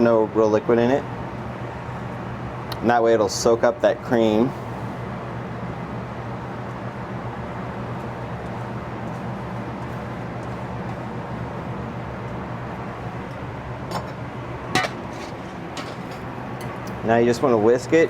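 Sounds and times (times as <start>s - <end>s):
fan noise with low hum: 0.0s - 18.0s.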